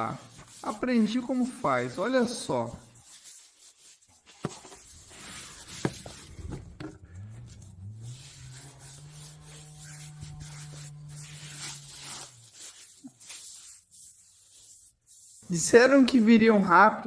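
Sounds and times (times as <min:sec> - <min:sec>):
hands rubbing salt into skin: 0:00.0 - 0:06.4, 0:07.3 - 0:15.6.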